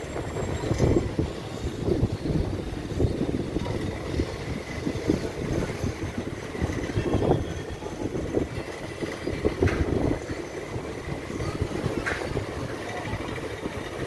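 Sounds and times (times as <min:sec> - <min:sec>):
train coaches rumbling: 0:00.0 - 0:14.0
wheels clattering on rails: 0:00.0 - 0:14.0.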